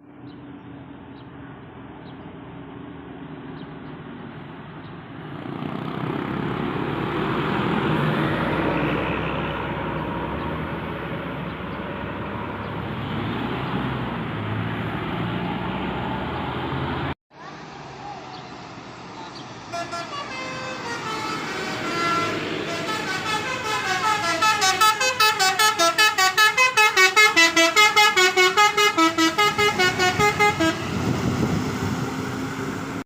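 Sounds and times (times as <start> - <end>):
bus driving past: 0.0 - 33.0.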